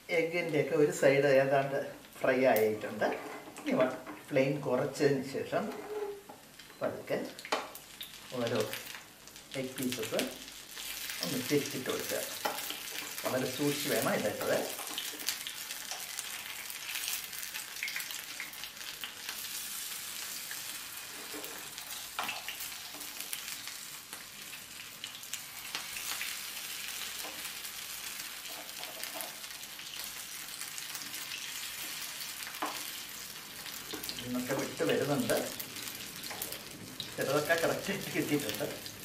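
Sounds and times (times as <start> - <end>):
food sizzling in oil: 0.0 - 39.0.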